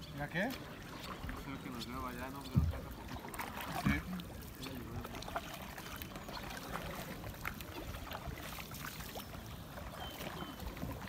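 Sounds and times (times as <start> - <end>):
paddles dipping through water: 0.0 - 11.0.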